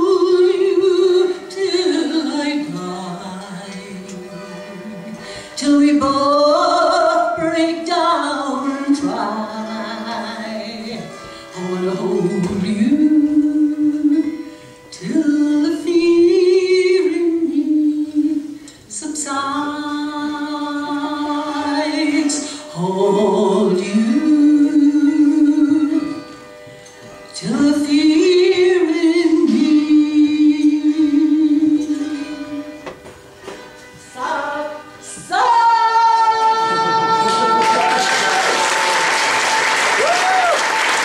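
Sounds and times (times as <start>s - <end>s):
woman singing slow song: 0.0s - 26.3s, 27.3s - 32.9s, 34.1s - 38.1s.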